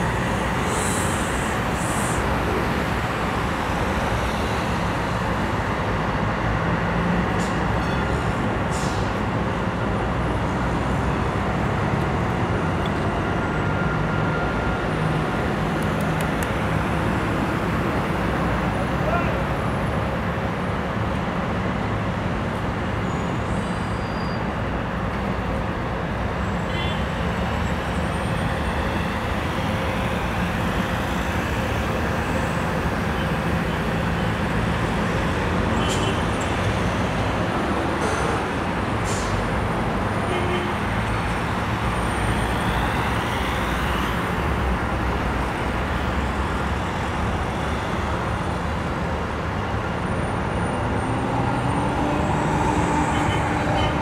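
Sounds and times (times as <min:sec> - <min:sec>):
city road traffic: 0:00.0 - 0:54.0.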